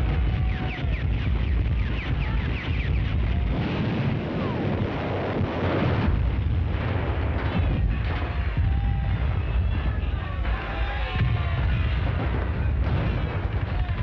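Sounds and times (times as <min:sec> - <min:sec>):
rumble of gunfire and blasts: 0:00.0 - 0:14.0.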